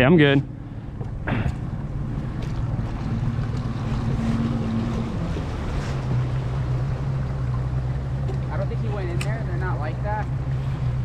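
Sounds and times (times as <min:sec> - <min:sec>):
boat motor humming: 0:00.0 - 0:11.0
water noise: 0:00.0 - 0:11.0
wind: 0:00.0 - 0:11.0.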